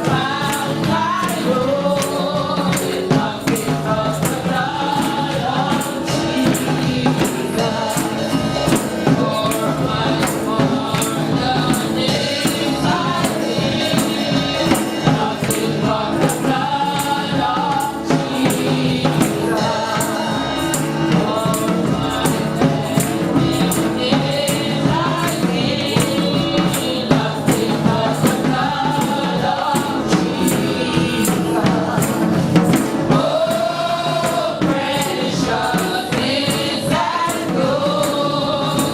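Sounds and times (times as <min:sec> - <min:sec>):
tambourine beat: 0:00.0 - 0:38.9
voices singing gospel: 0:00.0 - 0:38.9.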